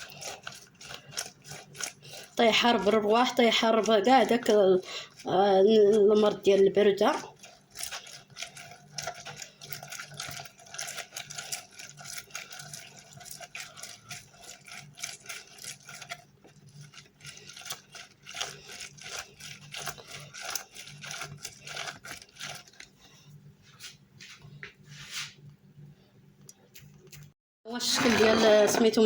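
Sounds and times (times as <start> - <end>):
onion grated on metal grater: 0.0 - 22.8, 27.8 - 29.0.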